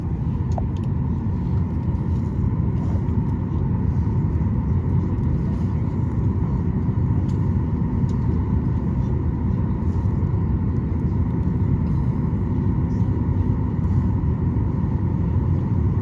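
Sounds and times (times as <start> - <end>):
airplane cabin rumble: 0.0 - 16.0
faint steady whine: 0.0 - 16.0.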